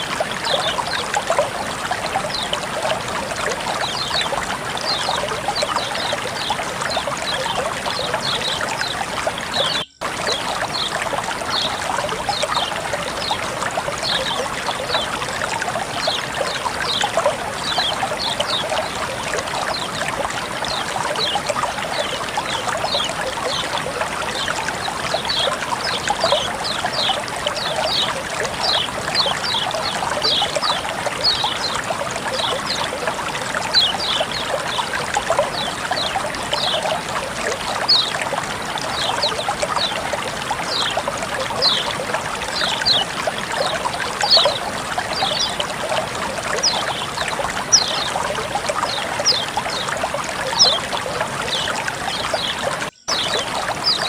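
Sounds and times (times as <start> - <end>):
high water plinks: 0.0 - 54.0
running water trickling: 0.0 - 54.0.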